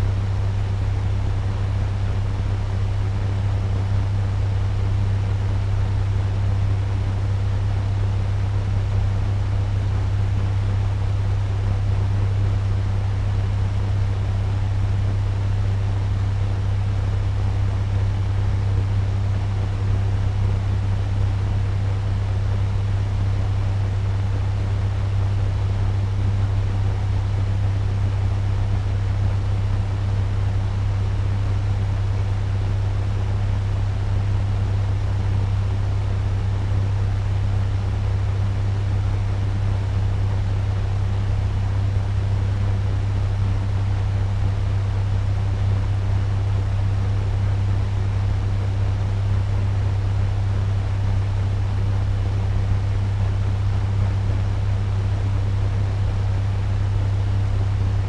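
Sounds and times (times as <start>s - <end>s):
fan rushing air with low hum: 0.0s - 58.0s.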